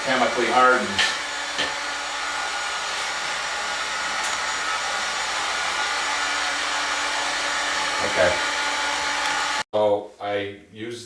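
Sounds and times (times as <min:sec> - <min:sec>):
heat gun blowing: 0:00.0 - 0:09.6.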